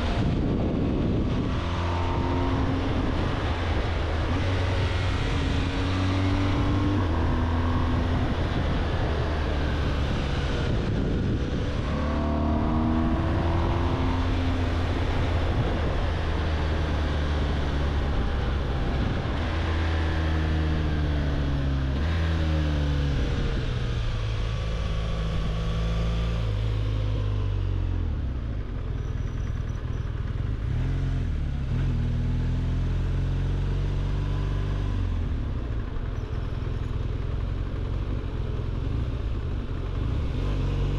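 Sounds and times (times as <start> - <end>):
motorcycle engine revving: 0.0 - 28.0, 28.9 - 40.9
wind and road noise: 0.0 - 40.9.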